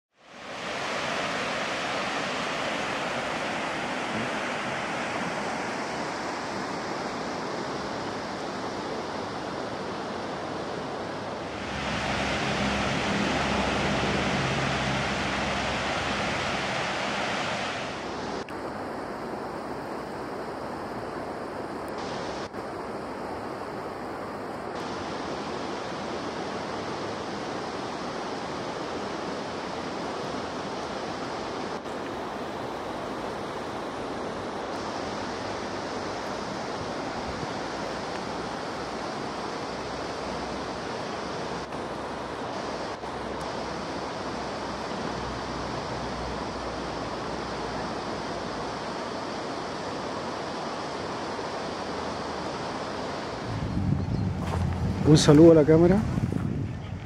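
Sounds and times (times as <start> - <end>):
river rapids rushing: 0.2 - 53.6.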